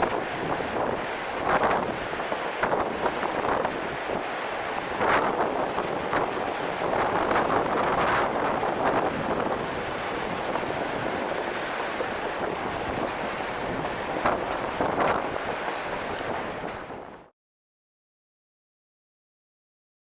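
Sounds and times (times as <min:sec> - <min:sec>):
wind buffeting microphone: 0:00.0 - 0:17.3.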